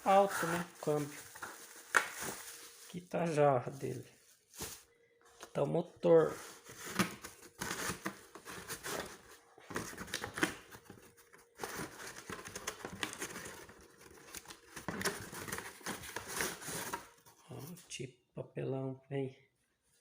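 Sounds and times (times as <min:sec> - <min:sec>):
packaging rustling and crinkling: 0:00.0 - 0:05.6, 0:06.2 - 0:17.2.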